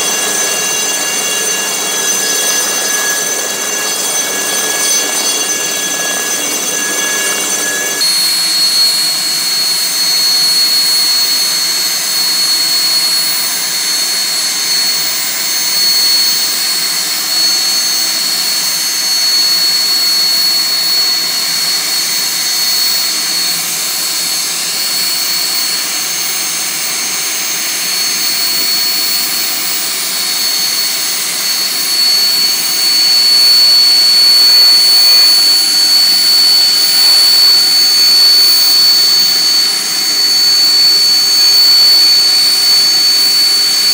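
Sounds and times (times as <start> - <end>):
helicopter turbine whine: 0.0 - 43.9.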